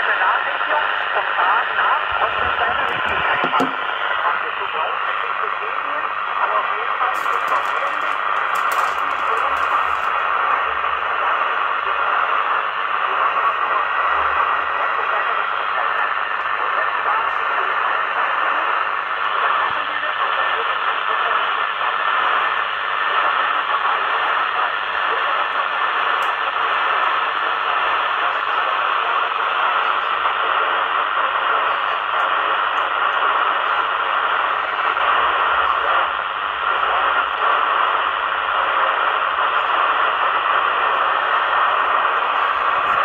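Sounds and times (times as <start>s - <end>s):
radio static hiss: 0.0s - 43.0s.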